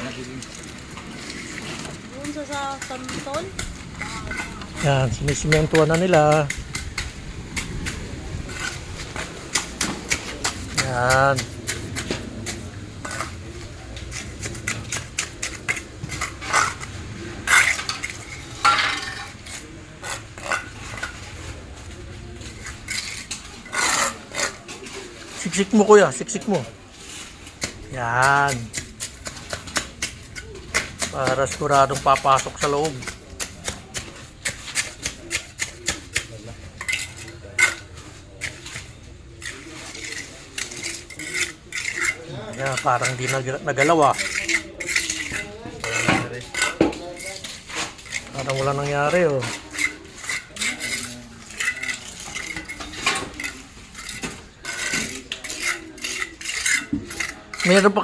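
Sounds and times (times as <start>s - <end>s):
metal tools scraping cement: 0.0s - 58.0s.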